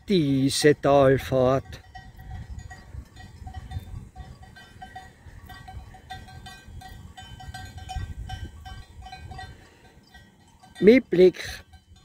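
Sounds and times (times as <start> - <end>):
cowbells clanking: 0.0 - 12.0.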